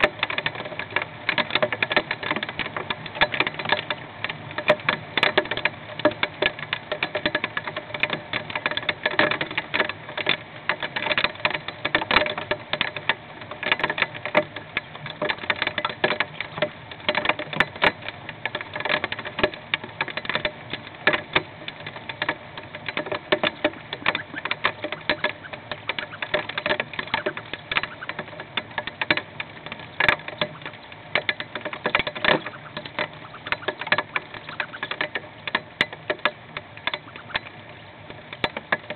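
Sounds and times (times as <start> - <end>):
hail drumming on a wooden box: 0.0 - 38.9.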